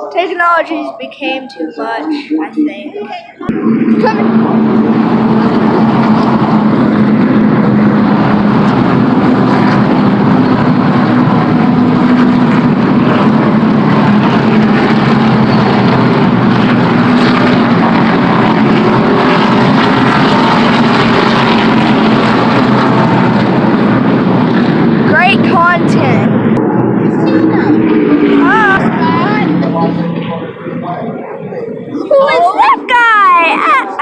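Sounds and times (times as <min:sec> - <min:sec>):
race car engines droning: 0:00.0 - 0:34.0.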